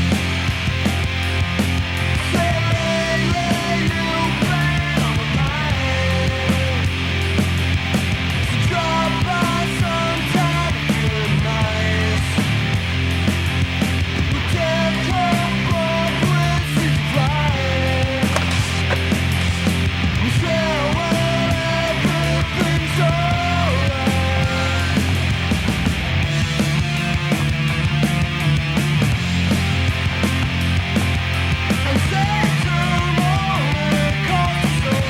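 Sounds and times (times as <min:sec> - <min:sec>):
punk rock music: 0:00.0 - 0:35.0.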